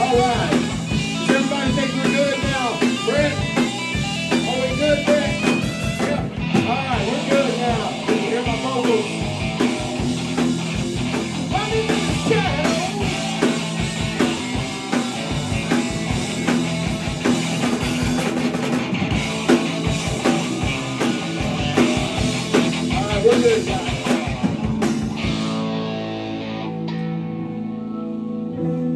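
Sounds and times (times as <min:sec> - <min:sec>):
drum kit steady beat: 0:00.0 - 0:25.8
rock band playing live: 0:00.0 - 0:28.8.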